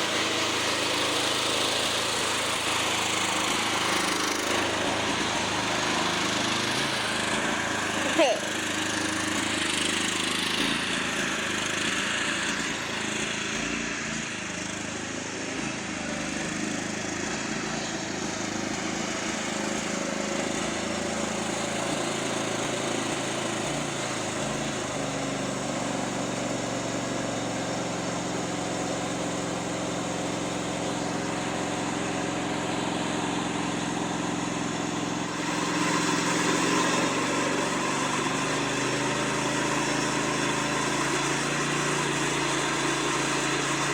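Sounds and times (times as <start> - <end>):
lawn mower engine running: 0.0 - 43.9.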